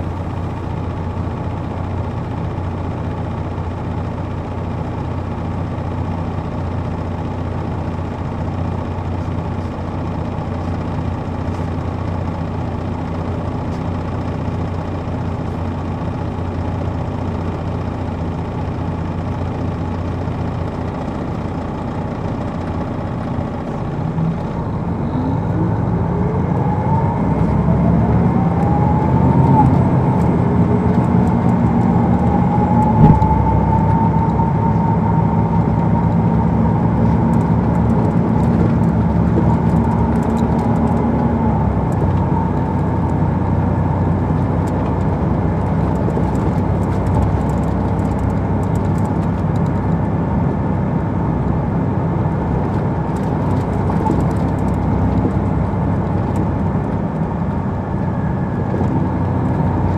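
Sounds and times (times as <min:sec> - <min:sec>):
coach diesel engine running: 0:00.0 - 0:59.9
engine whine: 0:00.0 - 0:59.9.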